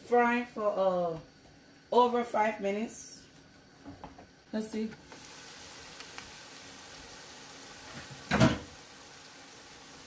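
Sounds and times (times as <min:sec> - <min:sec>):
okra sizzling in a pot: 0:00.0 - 0:10.0.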